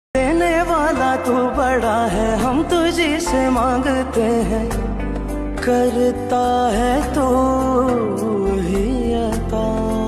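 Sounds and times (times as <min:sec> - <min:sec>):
devotional song singing: 0:00.2 - 0:10.0
low bass: 0:00.2 - 0:10.0.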